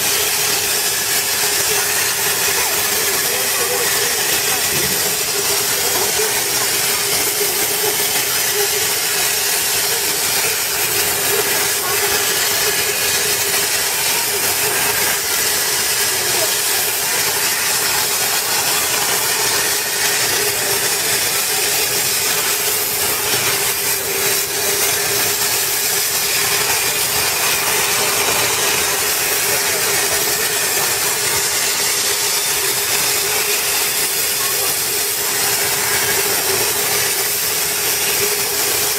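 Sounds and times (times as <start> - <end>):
plasma torch cutting metal: 0.0 - 38.9.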